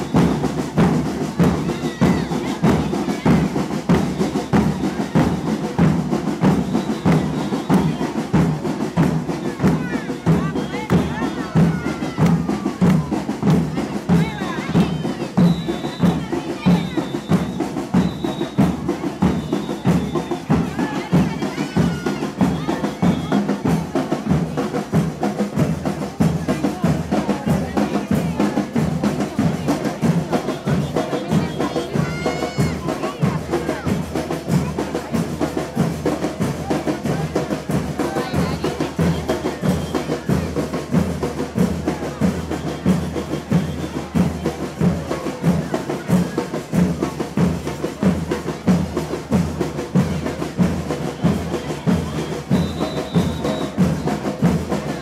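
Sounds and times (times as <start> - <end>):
crowd voices: 0.0 - 55.0.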